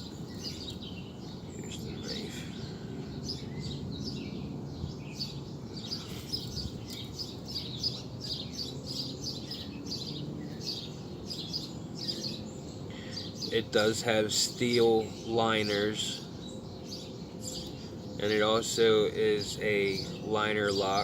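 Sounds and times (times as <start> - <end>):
low background noise: 0.0 - 21.0
small birds chirping: 0.0 - 21.0.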